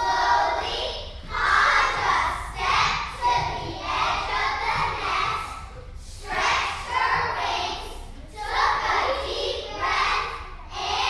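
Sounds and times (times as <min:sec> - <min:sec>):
children's voices: 0:00.0 - 0:11.0.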